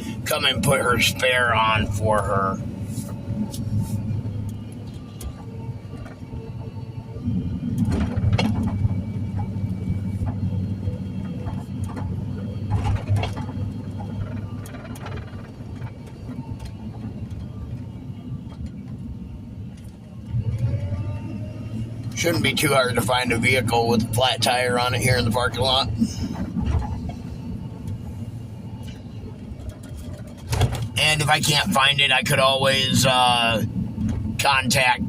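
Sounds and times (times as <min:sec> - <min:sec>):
car cabin rumble: 0:00.0 - 0:35.0.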